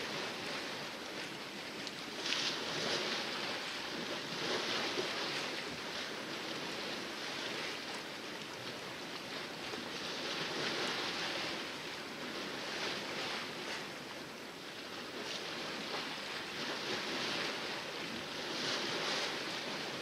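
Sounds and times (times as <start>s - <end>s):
water rushing along boat hull: 0.0s - 20.0s.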